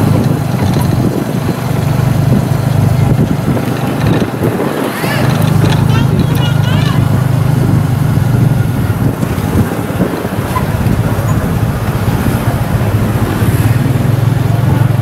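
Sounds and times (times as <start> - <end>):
motorbike engine drone: 0.0 - 15.0
road noise: 0.0 - 15.0
wind noise: 0.0 - 15.0.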